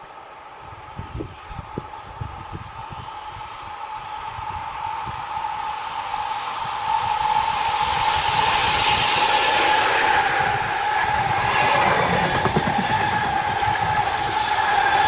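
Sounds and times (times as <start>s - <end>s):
train approaching with high whine: 0.0s - 15.0s.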